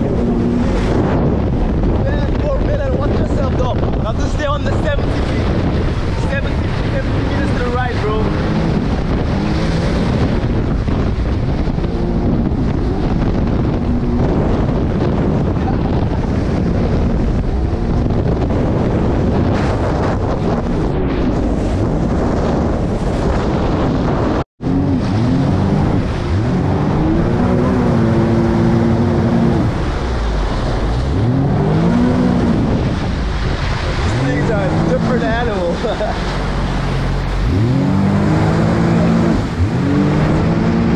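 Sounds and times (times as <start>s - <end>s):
jet ski engine running: 0.0s - 40.9s
rushing water: 0.0s - 40.9s
wind buffeting microphone: 0.0s - 40.9s.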